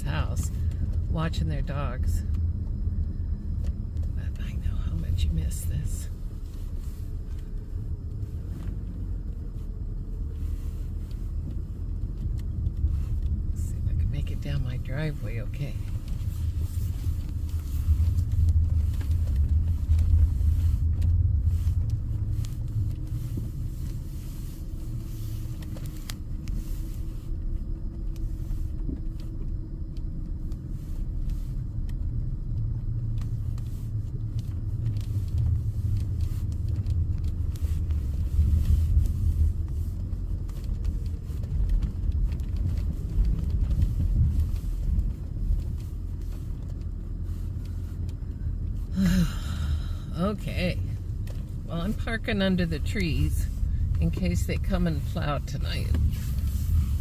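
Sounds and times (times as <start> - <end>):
car engine driving through snow: 0.0 - 57.0
road rumble: 0.0 - 57.0.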